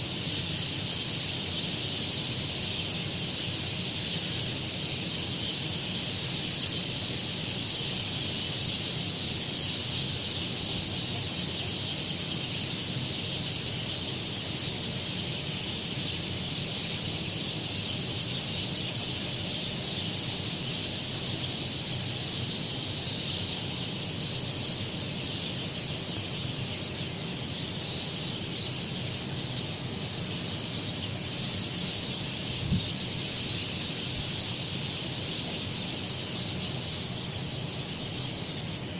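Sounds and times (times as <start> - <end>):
chorus of small birds chirping: 0.0 - 38.9.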